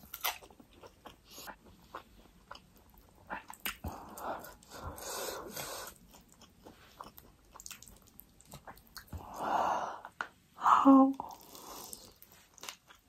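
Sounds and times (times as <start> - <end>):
chewing noodles: 0.0 - 9.4, 11.3 - 13.0.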